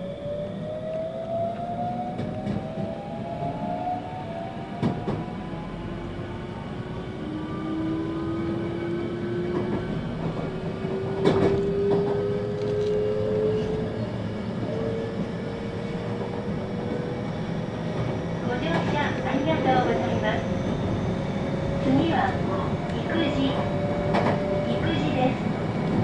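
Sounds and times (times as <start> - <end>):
train wheels rumbling on rail: 0.1 - 26.0.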